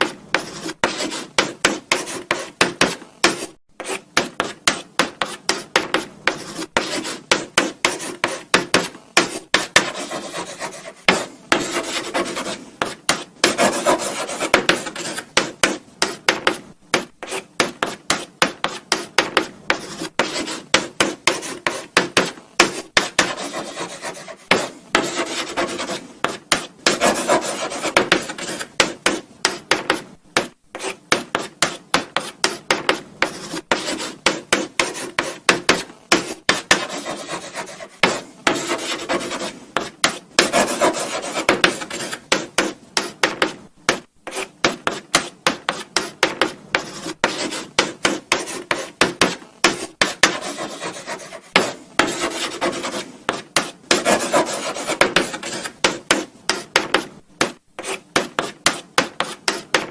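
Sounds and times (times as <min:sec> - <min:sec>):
chalk writing on blackboard: 0:00.0 - 0:59.9.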